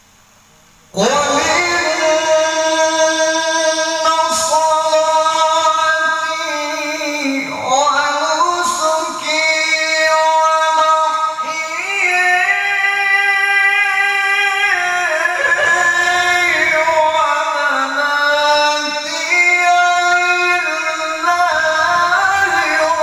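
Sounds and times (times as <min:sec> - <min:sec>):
man reciting melodically into microphone: 0:00.9 - 0:23.0.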